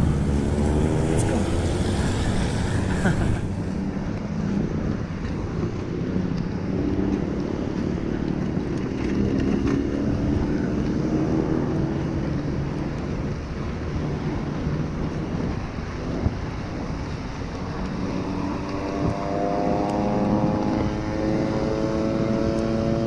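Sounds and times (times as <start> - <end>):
bicycle tyres hissing on wet road: 0.0 - 21.7
vehicle engine hum: 0.0 - 23.0
wind noise on microphone: 0.0 - 23.0.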